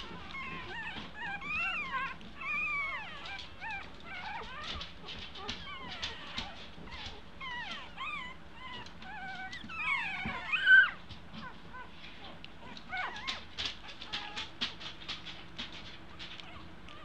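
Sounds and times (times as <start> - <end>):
puppies whining: 0.0 - 17.0.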